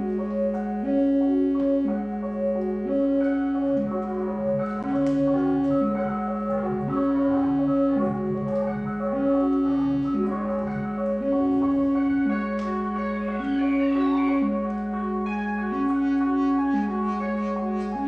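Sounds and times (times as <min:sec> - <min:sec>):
ambient synthesizer music: 0:00.0 - 0:18.0.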